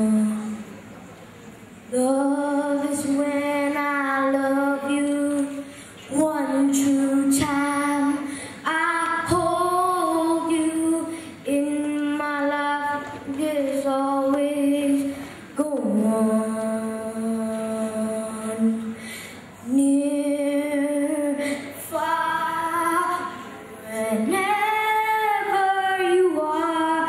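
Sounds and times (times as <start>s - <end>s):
boy singing into microphone: 0.0s - 0.7s, 1.9s - 27.0s.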